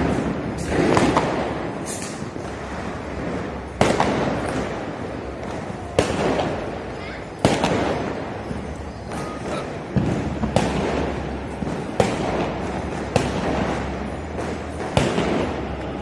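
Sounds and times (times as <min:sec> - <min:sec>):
firecrackers banging with echo: 0:00.0 - 0:16.0.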